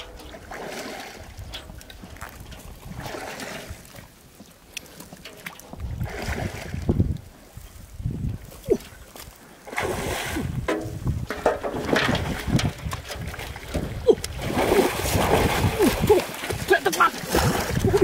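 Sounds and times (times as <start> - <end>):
wind buffeting microphone: 0.0 - 4.1, 5.7 - 9.2, 9.8 - 18.0
water and mud sloshing: 0.0 - 18.0.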